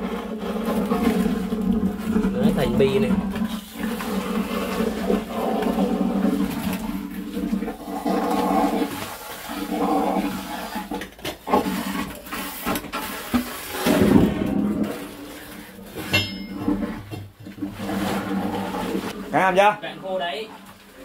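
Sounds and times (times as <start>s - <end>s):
suction hose slurping and gurgling: 0.0s - 21.0s.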